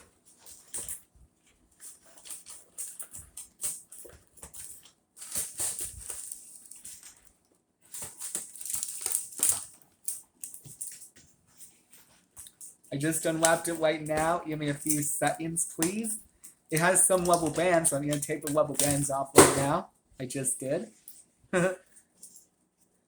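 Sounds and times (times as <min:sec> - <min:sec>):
packaging rustling and crinkling: 0:00.0 - 0:19.8.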